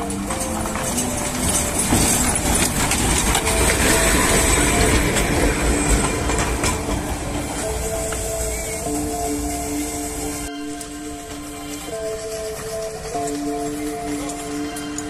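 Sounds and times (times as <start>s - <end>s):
steam locomotive rumble and hiss: 0.0s - 15.0s
wheels clanking on track: 0.0s - 15.0s.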